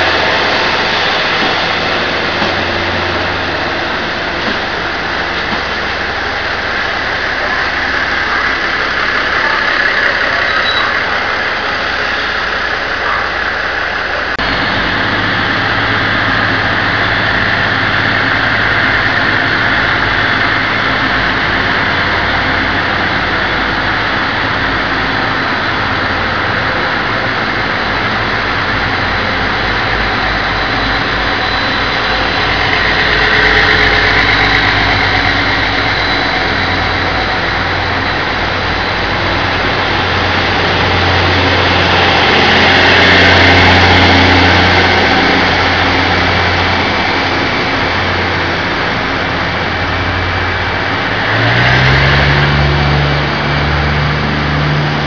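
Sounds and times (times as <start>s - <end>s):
diesel engine drone: 0.0s - 55.0s
train wheels on rails: 0.0s - 55.0s.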